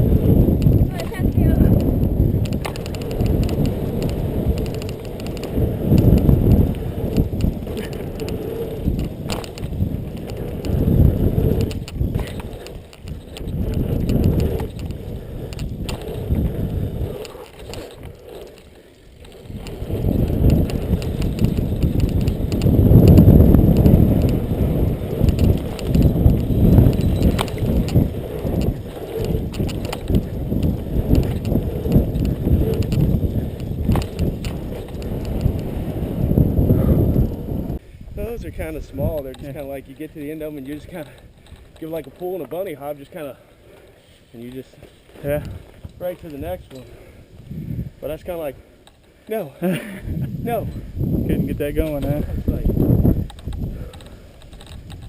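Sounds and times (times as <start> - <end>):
bike tyre rumble on dirt: 0.0 - 48.8, 49.4 - 55.0
wind buffeting microphone: 0.0 - 49.2, 49.9 - 55.0.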